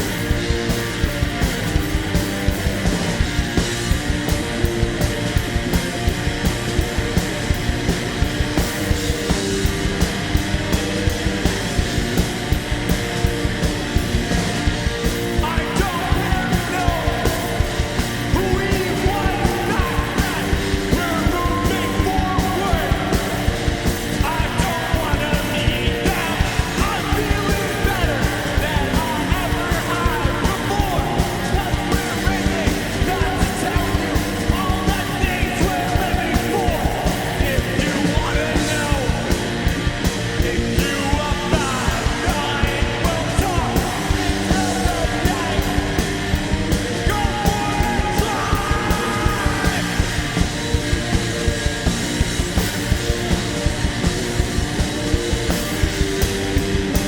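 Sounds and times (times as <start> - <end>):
driving drum beat: 0.0 - 57.0
electric guitars: 0.0 - 57.0
yelled vocals: 0.0 - 57.0.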